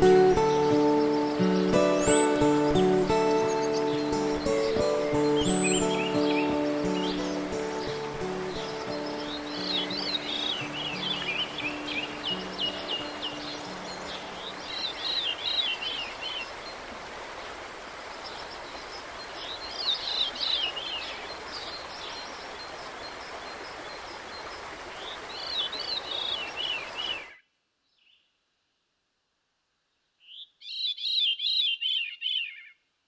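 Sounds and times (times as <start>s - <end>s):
songbird chirping: 0.0s - 17.0s, 18.0s - 28.3s, 30.2s - 32.8s
water flowing: 0.0s - 27.0s.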